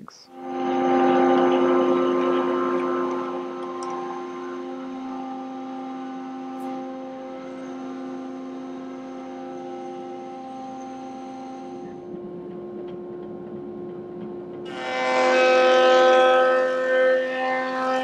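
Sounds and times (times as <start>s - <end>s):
woodshop machinery humming: 0.3s - 18.0s.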